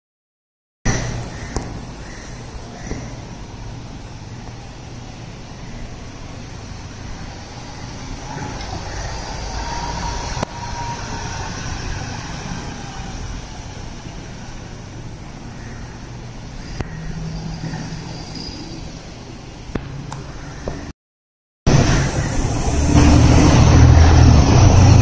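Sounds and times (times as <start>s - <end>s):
bus engine drone: 0.9s - 20.9s, 21.7s - 25.0s
faint whine: 0.9s - 20.9s.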